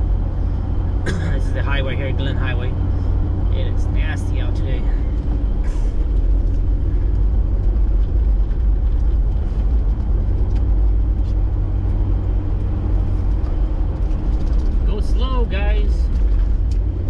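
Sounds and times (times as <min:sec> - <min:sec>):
car engine and tire noise inside cabin: 0:00.0 - 0:17.0.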